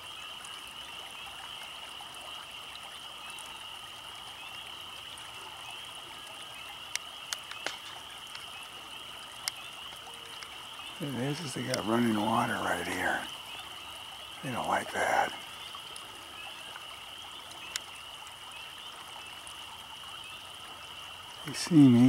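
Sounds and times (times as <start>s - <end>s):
frogs calling: 0.0s - 22.0s
water trickling in ditch: 0.0s - 22.0s.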